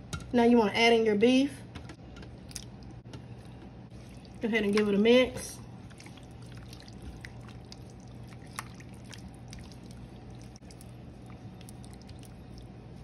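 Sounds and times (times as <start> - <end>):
wet sloshing of sauce: 2.4 - 13.0.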